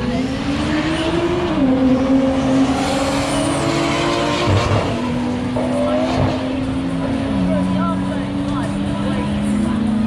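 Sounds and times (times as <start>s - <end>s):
car engine revving high: 0.0s - 10.0s.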